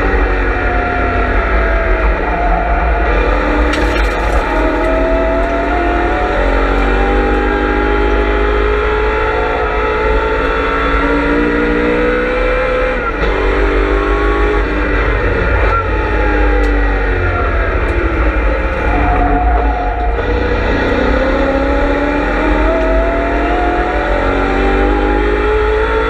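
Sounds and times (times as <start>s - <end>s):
race car engine accelerating: 0.0s - 26.0s.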